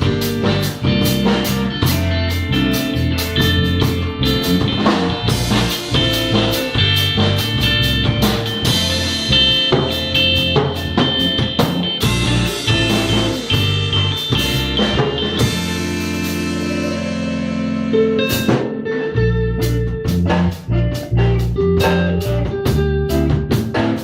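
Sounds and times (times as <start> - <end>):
bass and guitar lines: 0.0 - 24.0
drum kit beat: 0.0 - 24.0.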